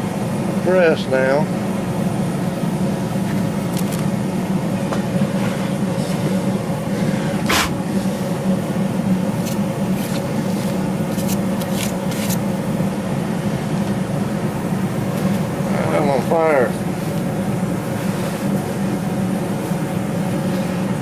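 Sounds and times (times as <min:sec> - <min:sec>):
hydraulic press hum: 0:01.6 - 0:21.0.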